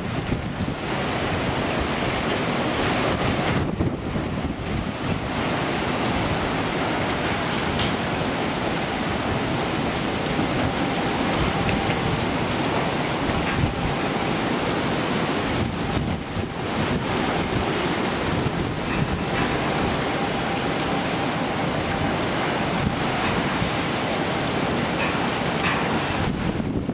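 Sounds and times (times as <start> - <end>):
heavy rain: 0.0 - 26.9
hurricane wind: 0.0 - 26.9
wind buffeting microphone: 0.0 - 26.9.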